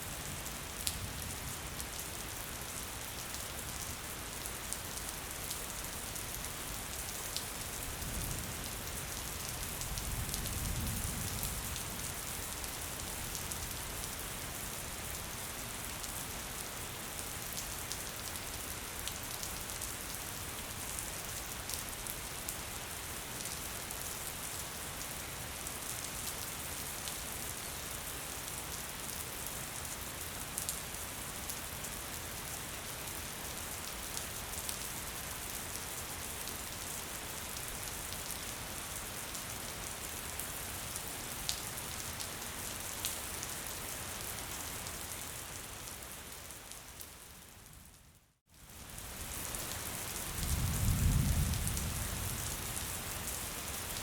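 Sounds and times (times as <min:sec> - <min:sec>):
gentle rain: 0:00.0 - 0:54.0.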